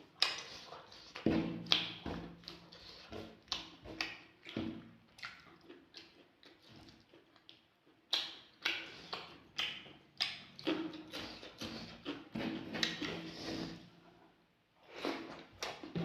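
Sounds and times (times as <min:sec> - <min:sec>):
chewing with wet mouth smacks: 0:00.0 - 0:13.7.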